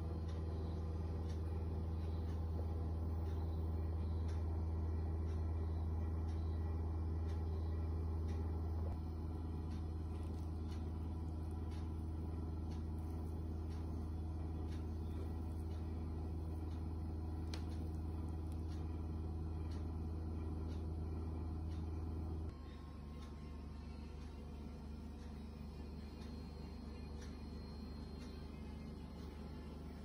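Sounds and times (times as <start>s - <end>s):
faint ticking: 0.0s - 30.0s
low electrical hum: 0.0s - 30.0s.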